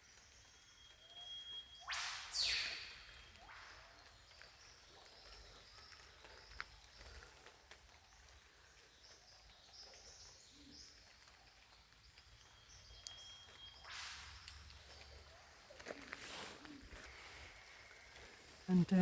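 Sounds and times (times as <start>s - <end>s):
distant birds calling: 0.0s - 19.0s.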